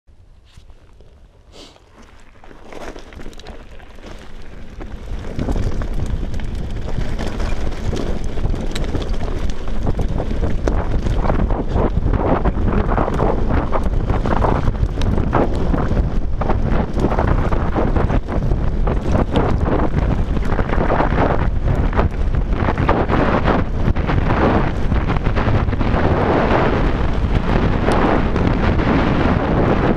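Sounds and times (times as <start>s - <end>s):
wind buffeting microphone: 0.2s - 29.9s
bike tyres rattling over stones: 1.8s - 29.9s.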